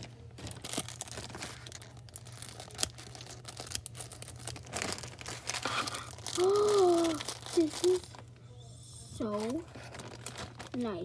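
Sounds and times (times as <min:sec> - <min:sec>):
wrapper being torn and crinkling: 0:00.0 - 0:08.3, 0:09.2 - 0:11.0.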